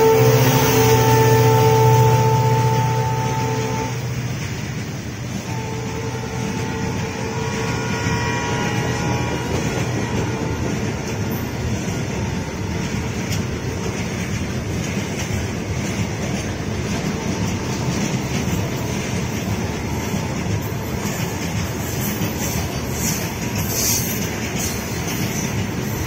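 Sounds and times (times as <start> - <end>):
freight train wheels clattering on rails: 0.0 - 26.0.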